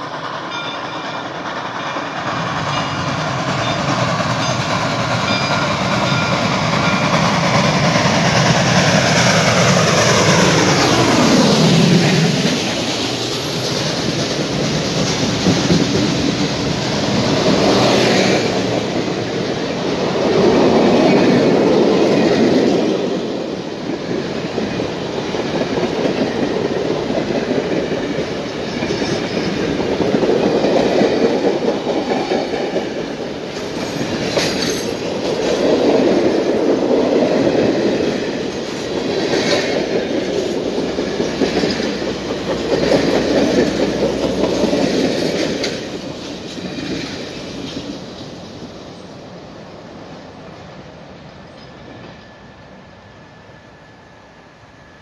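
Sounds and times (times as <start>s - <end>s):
clickety-clack of rail joints: 0.0s - 49.2s
train wheels rumbling on rail: 0.0s - 55.0s.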